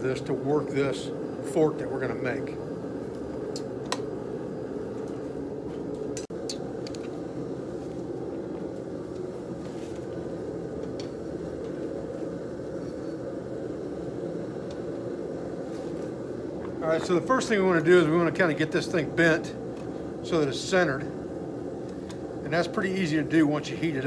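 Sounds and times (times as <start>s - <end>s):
burner roaring: 0.0s - 24.0s.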